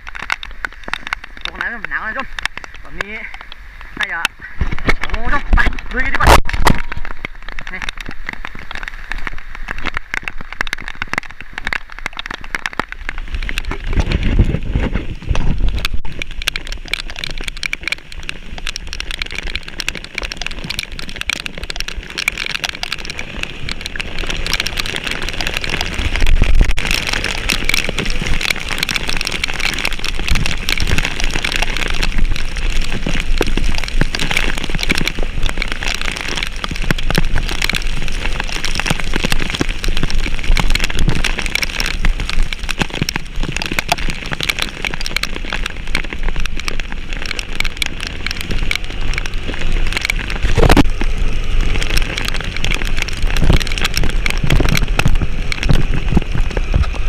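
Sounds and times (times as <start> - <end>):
heavy rain crackling on surface: 0.0 - 57.0
low rumbles: 0.0 - 57.0.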